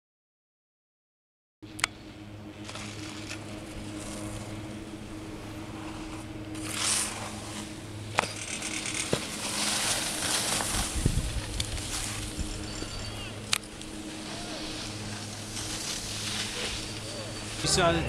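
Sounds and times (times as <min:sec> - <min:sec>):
steady low hum: 0:01.6 - 0:18.0
ski scraping across snow: 0:02.6 - 0:18.0.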